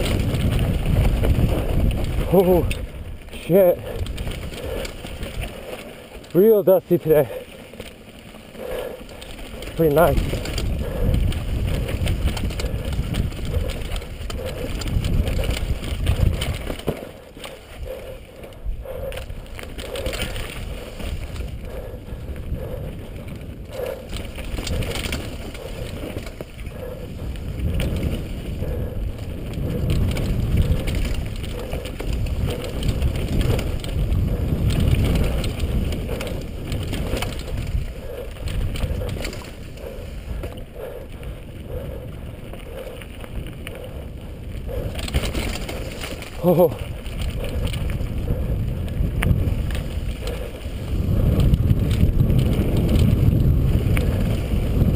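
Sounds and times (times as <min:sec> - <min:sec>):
bike rattling and knocking: 0:00.0 - 0:54.9
tyres running over dirt and rock: 0:00.0 - 0:54.9
wind rumble on microphone: 0:00.0 - 0:54.9.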